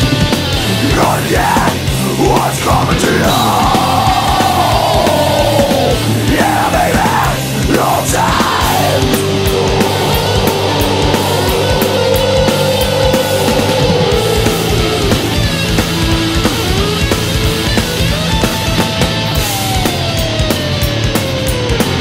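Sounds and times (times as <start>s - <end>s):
heavy rock song with vocals: 0.0s - 22.0s.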